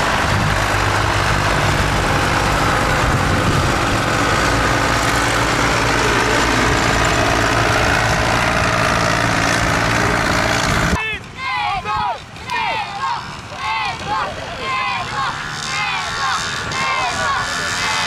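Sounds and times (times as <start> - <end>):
tractor diesel engine running: 0.0 - 11.0, 12.2 - 18.0.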